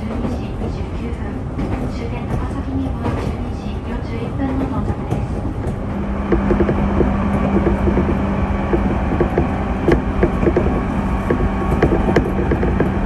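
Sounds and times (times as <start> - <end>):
constant hum: 0.0 - 13.0
train rumbling on track: 0.0 - 13.0
wheels clicking on rails: 0.0 - 13.0.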